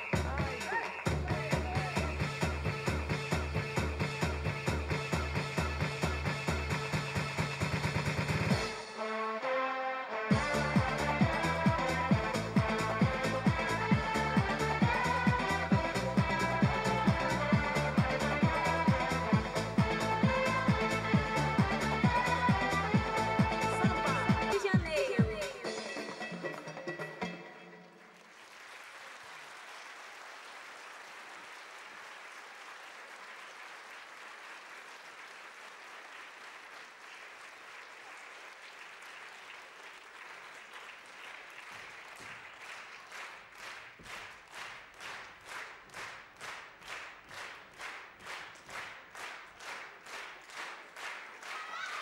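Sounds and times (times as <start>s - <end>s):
audience applause: 0.0s - 8.6s, 10.3s - 24.9s, 27.6s - 52.0s
rhythmic clapping in unison: 0.0s - 9.7s, 10.3s - 52.0s.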